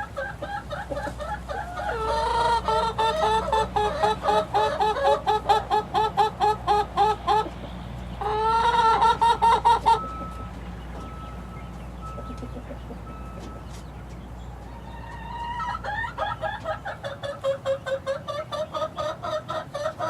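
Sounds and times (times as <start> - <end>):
chickens peeping: 0.0 - 20.0.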